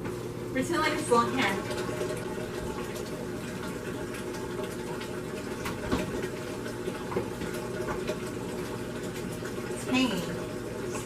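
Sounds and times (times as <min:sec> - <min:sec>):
water filling a container: 0:00.6 - 0:11.0.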